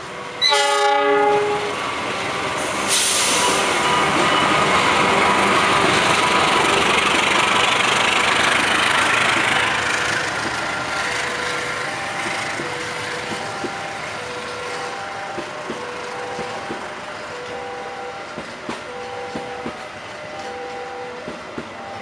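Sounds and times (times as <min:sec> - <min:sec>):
train coaches rolling on rails: 0:00.0 - 0:22.0.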